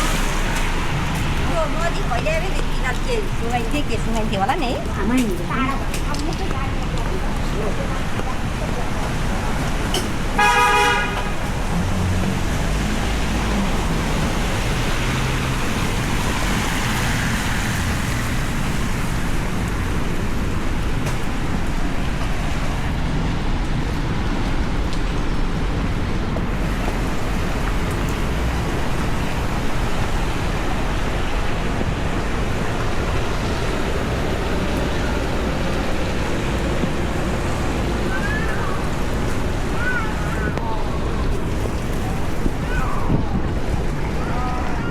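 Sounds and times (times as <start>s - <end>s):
heavy rain on street: 0.0s - 44.9s.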